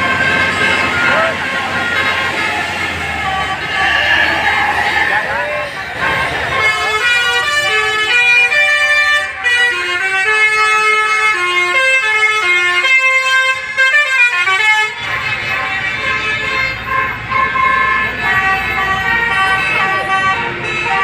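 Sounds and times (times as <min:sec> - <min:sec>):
multi-tone air horn melody: 0:00.0 - 0:21.0.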